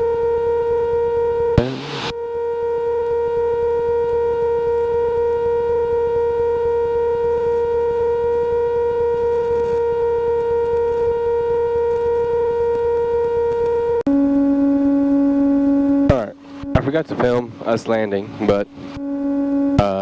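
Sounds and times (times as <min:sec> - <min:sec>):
airplane engine droning in cockpit: 0:00.0 - 0:20.0.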